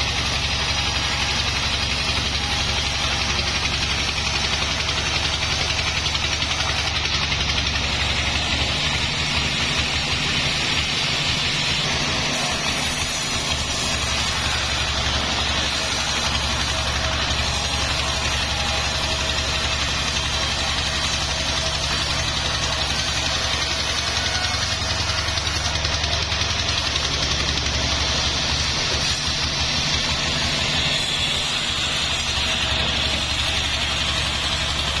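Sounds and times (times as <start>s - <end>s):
low engine drone: 1.6s - 31.0s.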